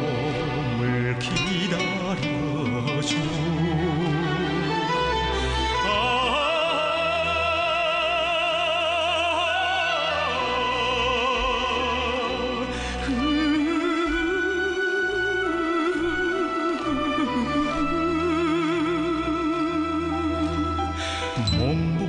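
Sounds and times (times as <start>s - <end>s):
orchestral backing music: 0.0s - 22.0s
person singing with vibrato: 0.0s - 22.0s.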